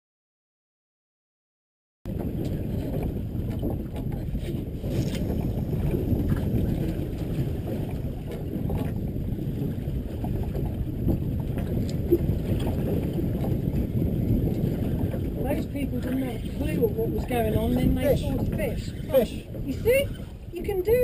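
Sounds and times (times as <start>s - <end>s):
sea wash around boat: 2.1s - 21.0s
wind rumble on microphone: 2.1s - 21.0s.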